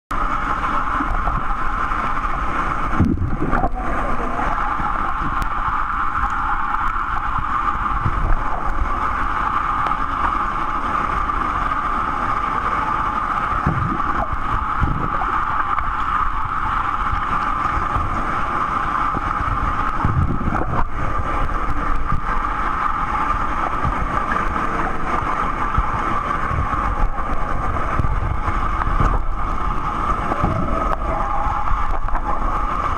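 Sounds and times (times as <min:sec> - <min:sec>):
underwater rushing hum: 0:00.1 - 0:32.9.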